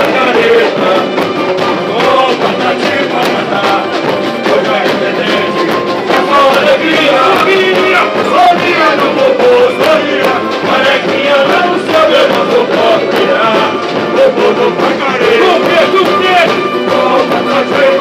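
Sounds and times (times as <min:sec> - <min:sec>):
dense driving percussion: 0:00.0 - 0:18.0
singing over loudspeakers: 0:00.0 - 0:18.0.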